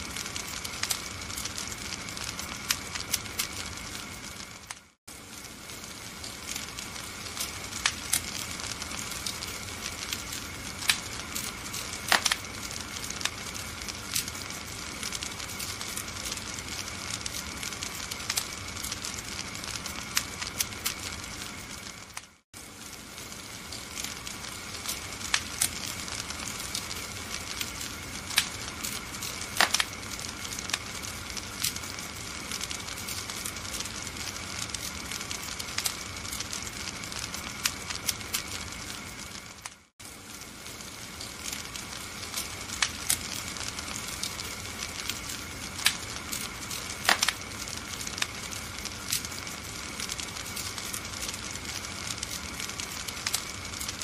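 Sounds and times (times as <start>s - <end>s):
fire popping and snapping: 0.0s - 54.0s
wood fire crackling: 0.0s - 54.0s.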